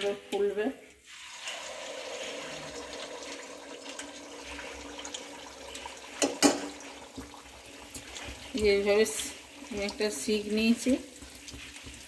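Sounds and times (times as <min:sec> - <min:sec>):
batter sizzling in hot oil: 0:01.0 - 0:12.0.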